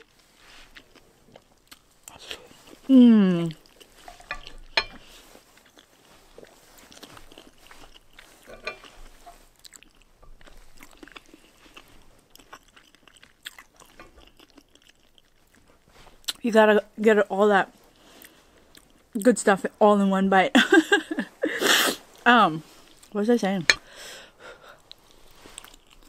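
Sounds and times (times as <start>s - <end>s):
close chewing: 0.0s - 16.4s, 17.8s - 19.2s, 22.0s - 26.0s.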